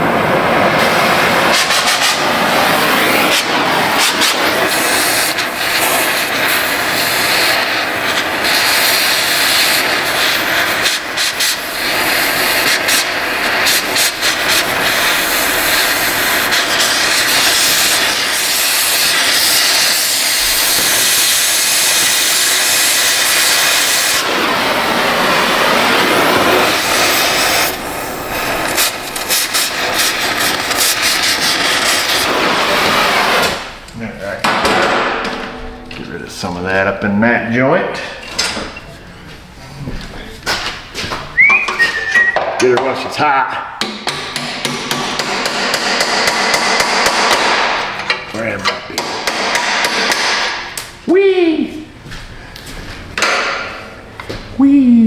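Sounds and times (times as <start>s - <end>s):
cutting torch hissing: 0.0s - 35.2s, 41.6s - 51.0s.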